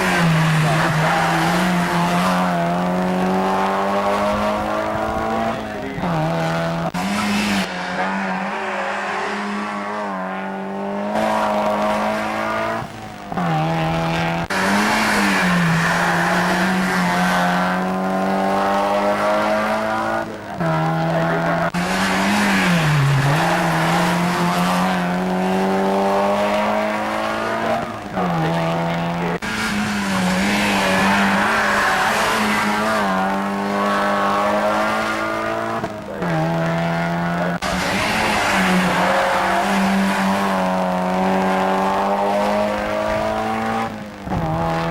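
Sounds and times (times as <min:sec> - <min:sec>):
race car engine running hard: 0:00.0 - 0:44.9.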